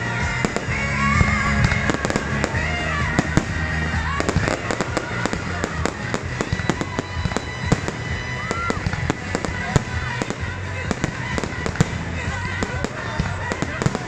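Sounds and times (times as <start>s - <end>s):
fireworks bangs and crackles: 0.0s - 14.0s
music with bass line: 0.0s - 14.0s.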